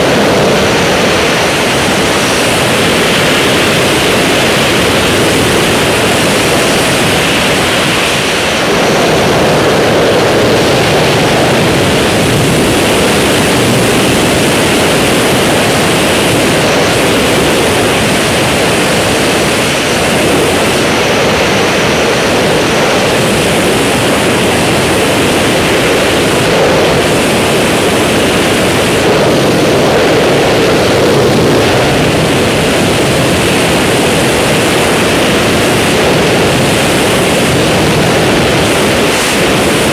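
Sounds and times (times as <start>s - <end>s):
wind rushing across microphone: 0.0s - 39.9s.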